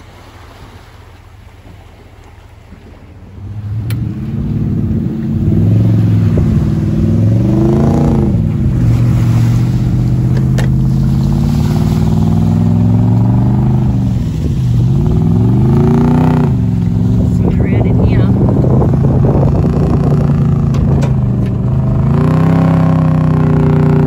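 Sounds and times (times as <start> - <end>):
vehicle engine working under load: 3.4 - 24.0.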